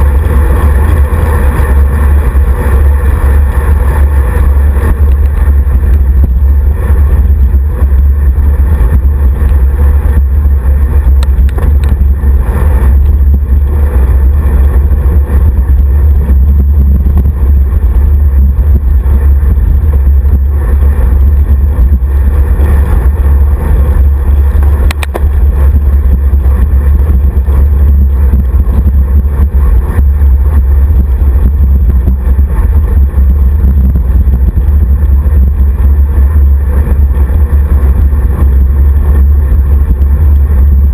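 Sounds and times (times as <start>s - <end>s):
bike road vibration: 0.0s - 40.9s
wind rumble on microphone: 0.0s - 40.9s.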